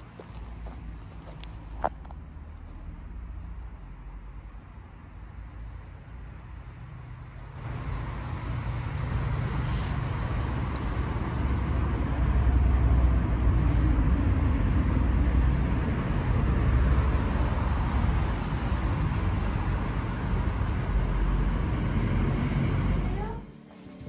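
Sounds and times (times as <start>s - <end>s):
outdoor rumble with hiss: 0.0s - 24.0s.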